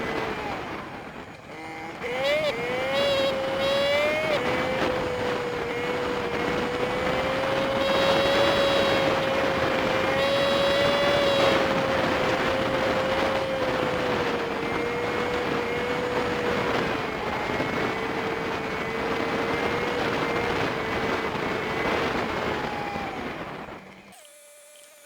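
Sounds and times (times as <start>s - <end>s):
motorbike engine drone: 0.0s - 25.0s
wind and road noise: 0.0s - 25.0s.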